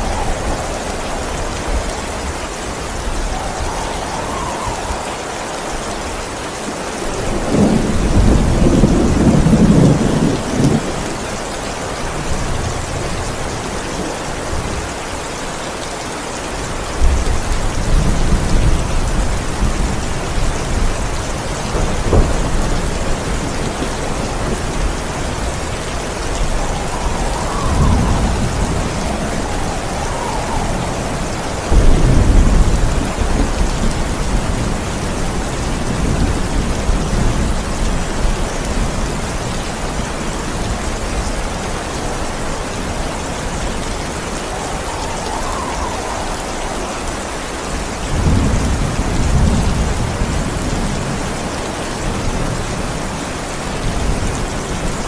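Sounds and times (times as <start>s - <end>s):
thunder rumbling: 0.0s - 14.9s, 16.8s - 55.0s
heavy rain: 0.0s - 55.0s.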